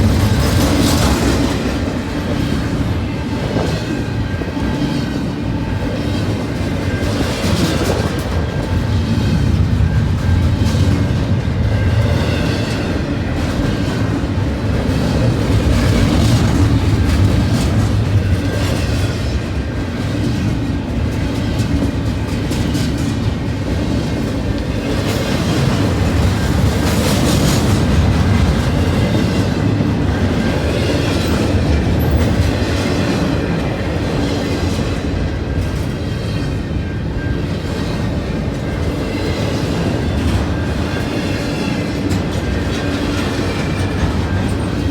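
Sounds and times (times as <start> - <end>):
freight train rumbling past: 0.0 - 44.9
steel wheels clacking over rail joints: 0.0 - 44.9.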